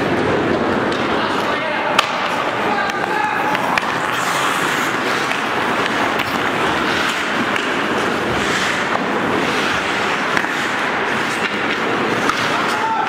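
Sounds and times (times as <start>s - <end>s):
faint clicks of sticks and puck: 0.0s - 13.0s
steady noisy hiss: 0.0s - 13.0s
skate blades scraping ice: 2.0s - 13.0s.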